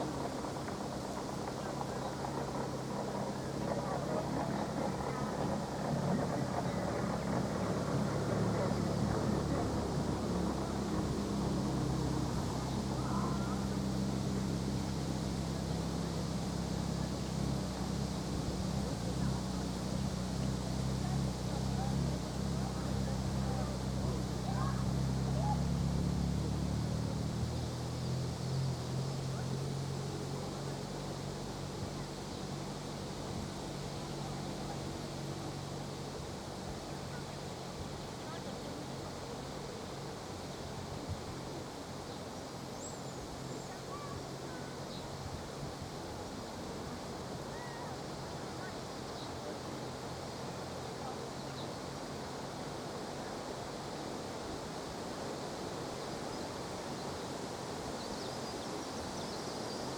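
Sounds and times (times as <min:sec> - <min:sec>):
low engine drone: 0:00.0 - 0:48.9.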